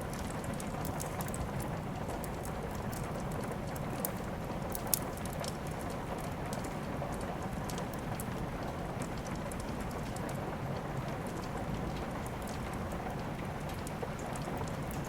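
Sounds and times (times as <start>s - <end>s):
steady rain: 0.0s - 15.0s
wood fire crackling and popping: 0.0s - 15.0s.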